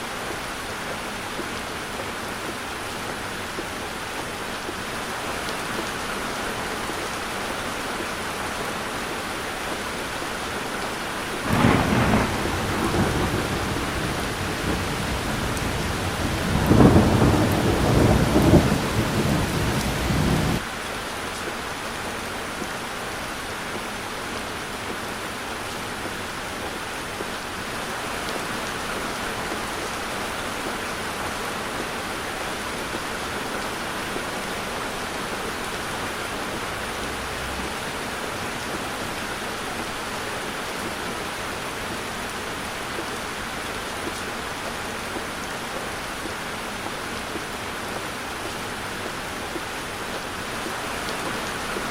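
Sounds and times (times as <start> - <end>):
heavy rain on car roof: 0.0 - 51.9.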